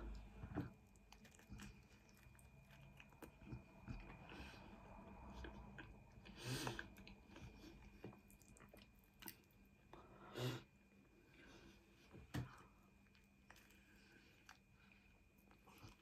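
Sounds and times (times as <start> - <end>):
chewing garlic bread: 0.0 - 10.2, 10.9 - 16.0.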